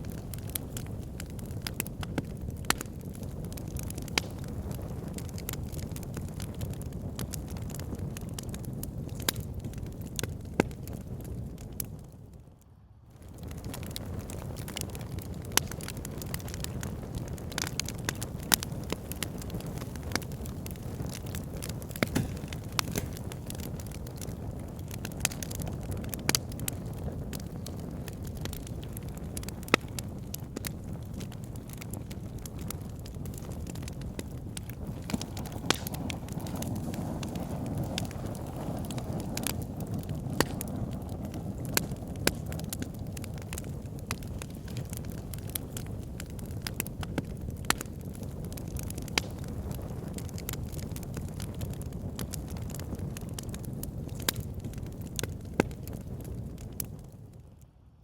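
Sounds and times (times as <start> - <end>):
sharp pops from fire: 0.0 - 12.2, 13.2 - 57.4
fire crackling: 0.0 - 58.0
low rumble of flames: 0.0 - 58.0.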